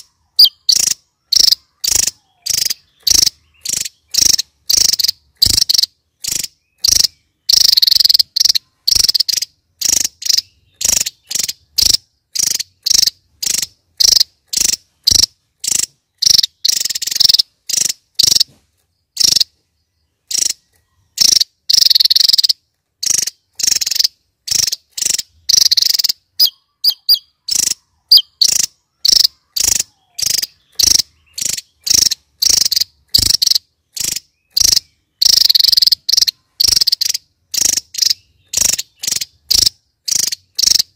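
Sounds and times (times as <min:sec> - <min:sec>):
bird singing high phrases: 0:00.0 - 0:40.9.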